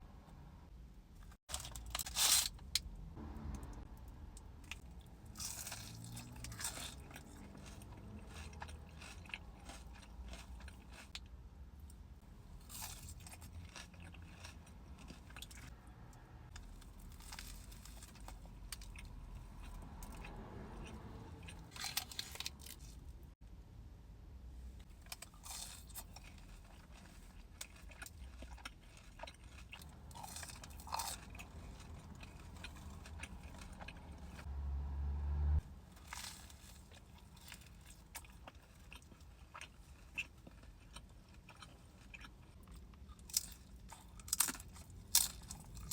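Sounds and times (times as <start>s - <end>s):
person crunching and chewing food: 1.5s - 3.8s, 4.4s - 23.2s, 24.8s - 34.5s, 36.0s - 45.9s.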